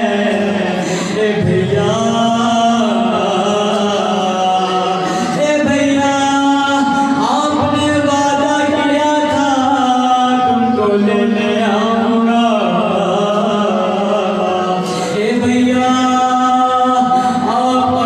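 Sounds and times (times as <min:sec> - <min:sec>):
man chanting through microphone: 0:00.0 - 0:18.0.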